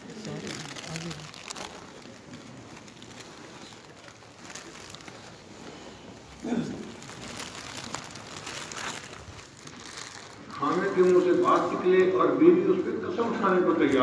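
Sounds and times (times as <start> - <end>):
murmur of a voice: 0.0 - 14.0.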